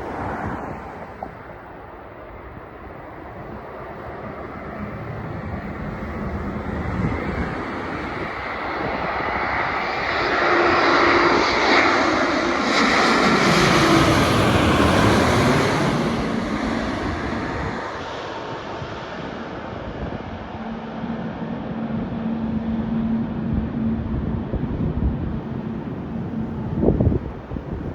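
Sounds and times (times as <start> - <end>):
jet airliner passing by: 0.0 - 27.9.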